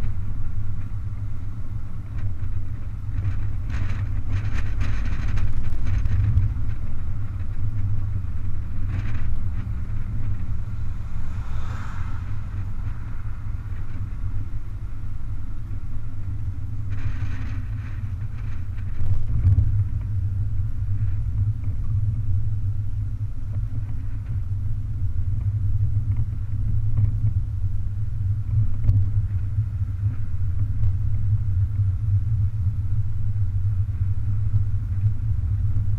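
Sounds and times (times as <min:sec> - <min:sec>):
wind and road noise rumble: 0:00.0 - 0:35.9.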